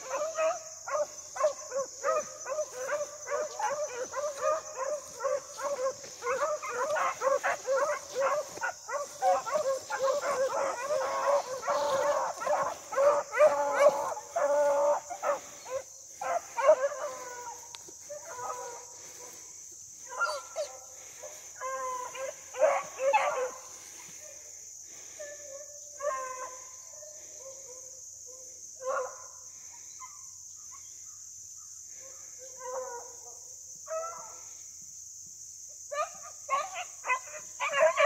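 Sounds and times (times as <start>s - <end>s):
dogs barking and baying: 0.0s - 29.4s, 32.0s - 34.6s, 35.9s - 38.0s
high drone of insects: 0.0s - 38.0s.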